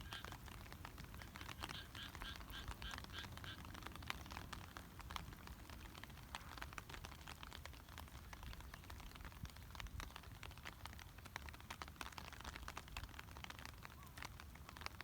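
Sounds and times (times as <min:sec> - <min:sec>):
raindrops ticking: 0:00.0 - 0:15.0.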